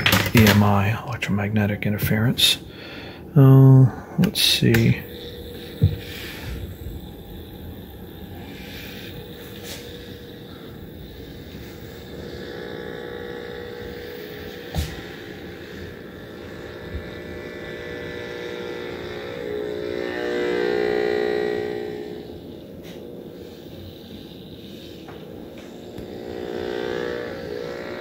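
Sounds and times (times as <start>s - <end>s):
electrical buzzing hum: 0.0s - 28.0s.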